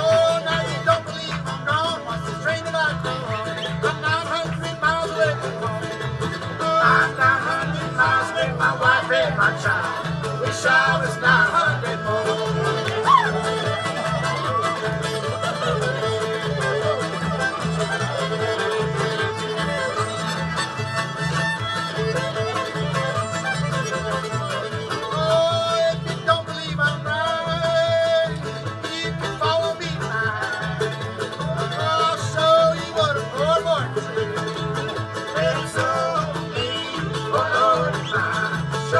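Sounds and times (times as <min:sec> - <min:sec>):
fiddle melody: 0:00.0 - 0:38.9
strummed guitar: 0:00.0 - 0:38.9.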